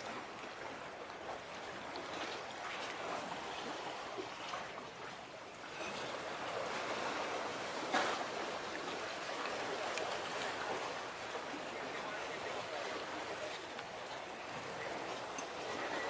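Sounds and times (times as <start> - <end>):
sea water lapping shore: 0.0 - 16.0.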